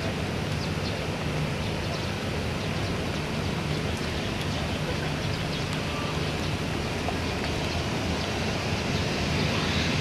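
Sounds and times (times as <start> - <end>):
jet engines idling: 0.0 - 10.0
rain: 0.0 - 10.0.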